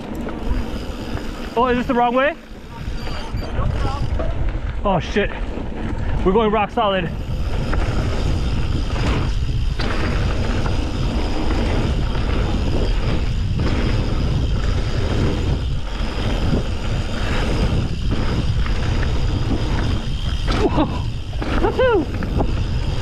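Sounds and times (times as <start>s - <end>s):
bike rolling over rocky trail: 0.0s - 23.0s
wind on microphone: 2.5s - 23.0s.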